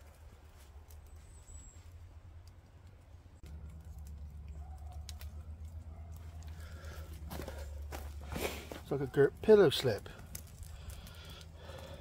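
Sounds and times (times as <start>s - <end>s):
campfire crackling and popping: 0.0s - 1.3s, 2.1s - 12.0s
low fire rumble: 0.0s - 12.0s.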